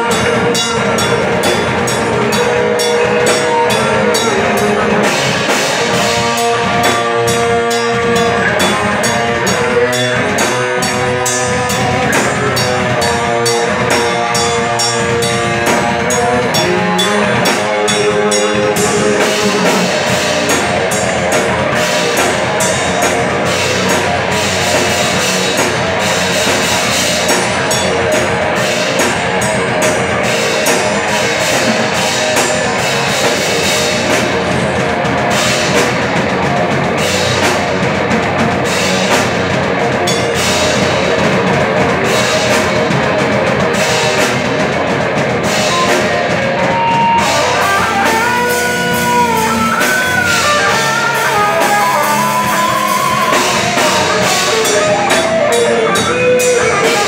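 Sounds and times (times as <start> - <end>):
heavy metal band playing live: 0.0 - 57.0
lead guitar with bent notes: 0.0 - 57.0.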